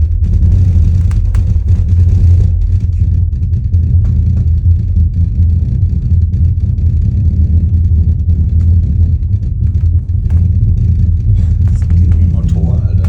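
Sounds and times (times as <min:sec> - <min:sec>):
subwoofer playing deep bass: 0:00.0 - 0:13.0.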